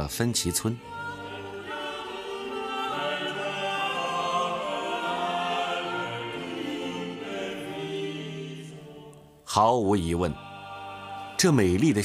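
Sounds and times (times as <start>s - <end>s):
choir singing long notes: 0.6s - 12.0s.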